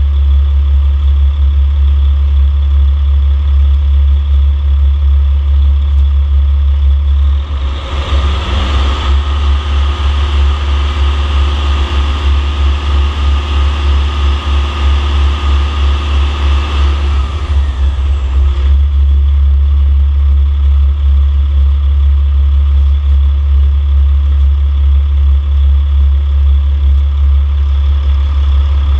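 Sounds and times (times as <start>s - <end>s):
diesel engine idling and revving: 0.0s - 28.9s.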